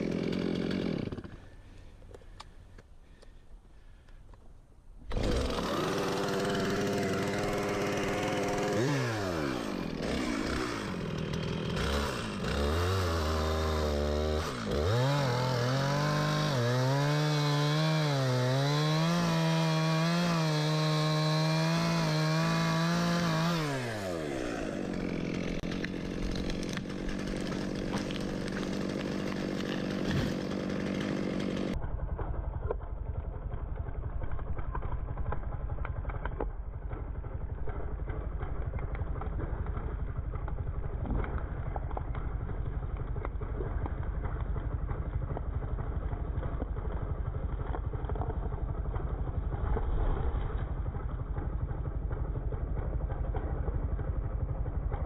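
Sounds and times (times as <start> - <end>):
chainsaw cutting wood: 0.0 - 1.6, 5.0 - 55.0.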